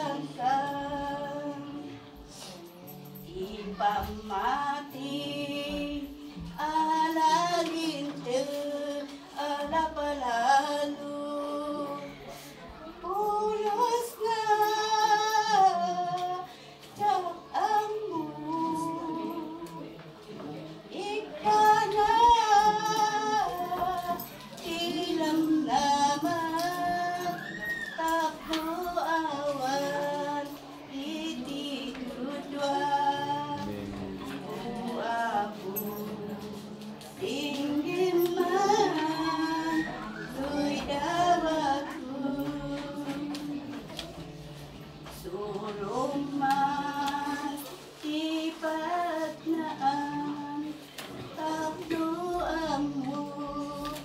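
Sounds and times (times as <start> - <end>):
women singing slow song: 0.0 - 54.0.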